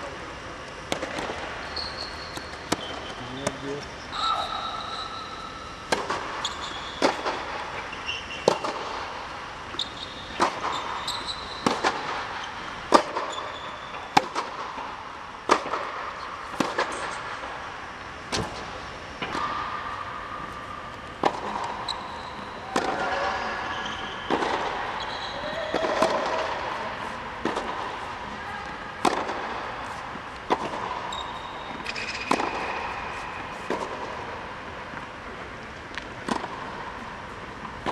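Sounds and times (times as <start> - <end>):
tennis balls struck by rackets: 0.8 - 1.6, 2.3 - 3.8, 5.7 - 35.3, 35.9 - 37.9
tennis balls bouncing on hard court: 0.8 - 3.8, 5.7 - 35.2, 35.9 - 37.9.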